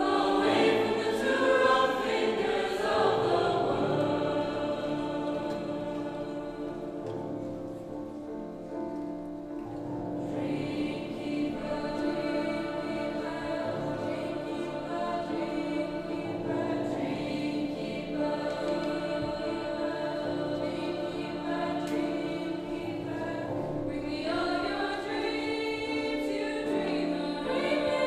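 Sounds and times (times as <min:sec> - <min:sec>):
choir singing: 0:00.0 - 0:08.6, 0:09.8 - 0:28.0.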